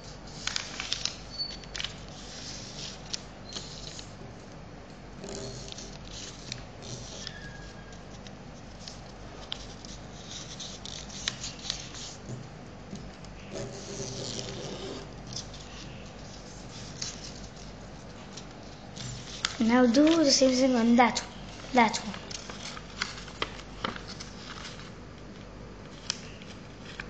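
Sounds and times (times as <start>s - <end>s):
paper crinkling and rustling: 0.0s - 4.6s, 5.3s - 27.0s
sharp ticks of paper creasing: 0.3s - 4.2s, 5.2s - 12.3s, 13.1s - 27.0s.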